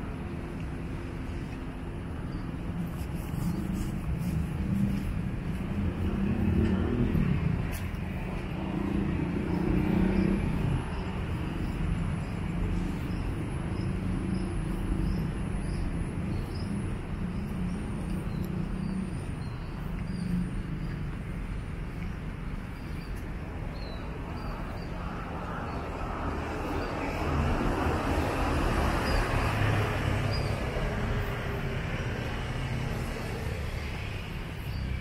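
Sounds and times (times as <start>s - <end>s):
vehicles passing on a road: 0.0s - 35.0s.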